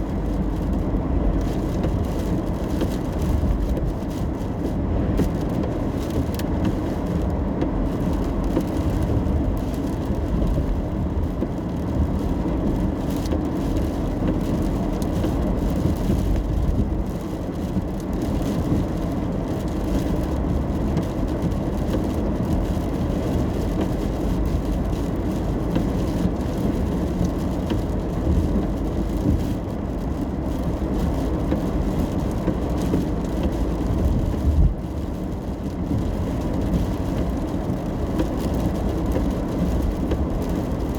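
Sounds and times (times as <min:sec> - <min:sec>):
engine and tyres on wet pavement: 0:00.0 - 0:40.9.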